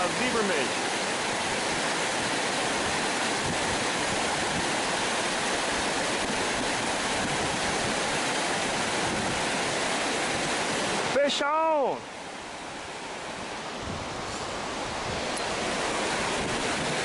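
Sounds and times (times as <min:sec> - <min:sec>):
water rushing over a dam: 0:00.0 - 0:17.0.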